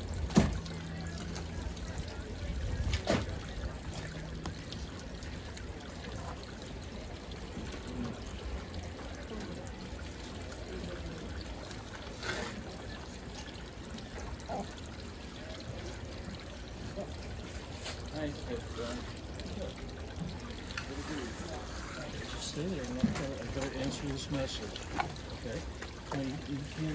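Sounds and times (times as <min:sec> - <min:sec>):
water running and splashing: 0:00.0 - 0:26.9.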